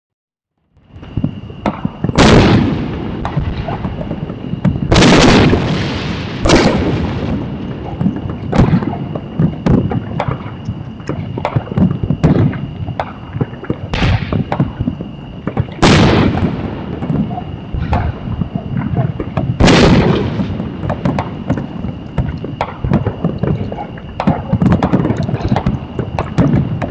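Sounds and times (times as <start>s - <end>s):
fireworks booming: 0.7s - 26.9s
fireworks crackling pops: 0.7s - 26.9s.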